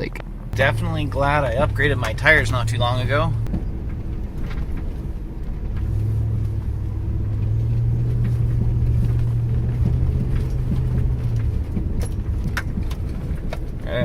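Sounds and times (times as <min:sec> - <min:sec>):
low road rumble: 0:00.0 - 0:14.0
truck engine droning: 0:00.0 - 0:14.0.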